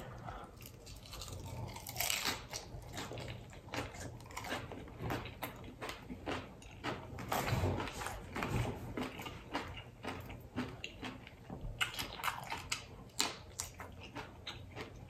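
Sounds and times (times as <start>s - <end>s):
person crunching taco shell: 0.4s - 15.0s.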